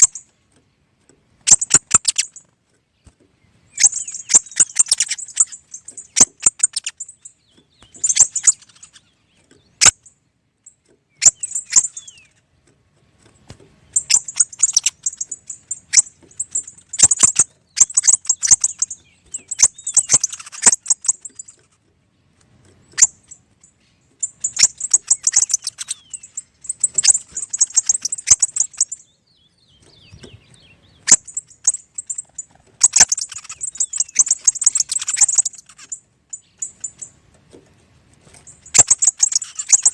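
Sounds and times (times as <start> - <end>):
sharp clicks: 0.0 - 3.2, 3.8 - 29.0, 29.7 - 37.7
birds chattering: 0.0 - 39.9.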